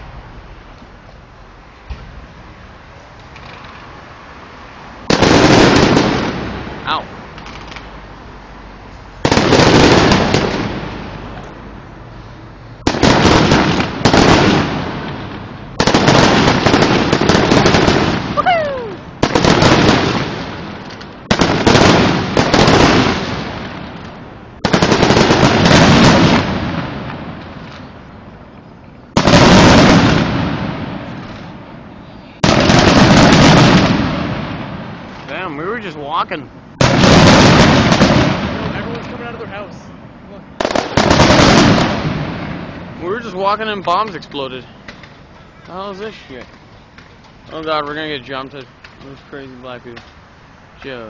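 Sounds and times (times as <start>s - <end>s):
fireworks booming: 1.8s - 2.6s, 5.0s - 7.8s, 9.2s - 11.7s, 12.8s - 28.3s, 29.1s - 50.2s
fireworks crackling: 4.9s - 8.0s, 9.0s - 51.0s.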